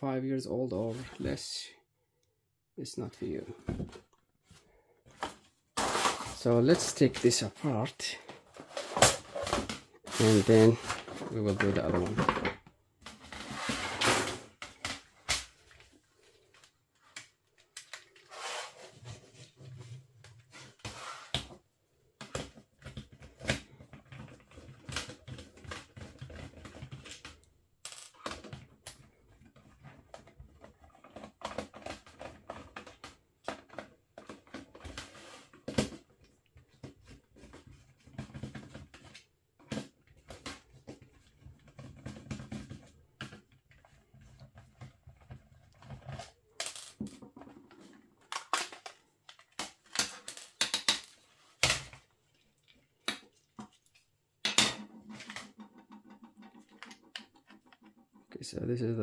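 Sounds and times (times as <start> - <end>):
plastic parts clicking and scraping: 5.0 - 58.4.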